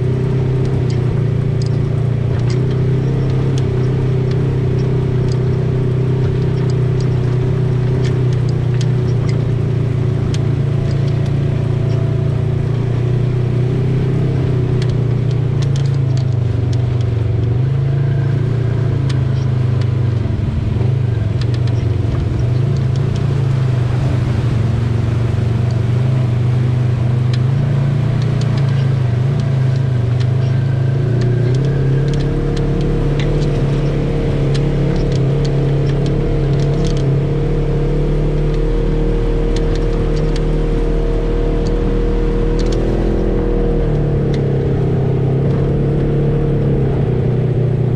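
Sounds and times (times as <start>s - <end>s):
deep rumble: 0.0s - 47.9s
off-road vehicle engine running: 0.0s - 47.9s
light clicks: 0.6s - 12.6s, 14.5s - 23.5s, 25.6s - 46.7s.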